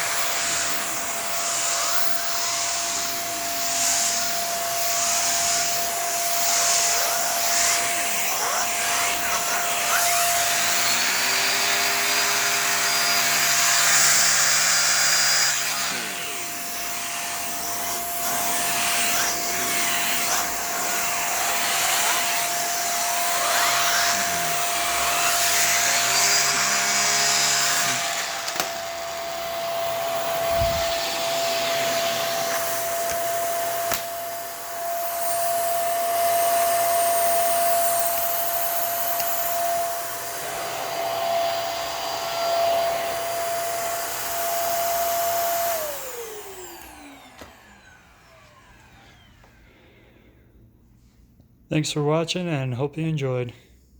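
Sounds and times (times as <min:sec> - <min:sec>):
vacuum cleaner running: 0:00.0 - 0:50.3.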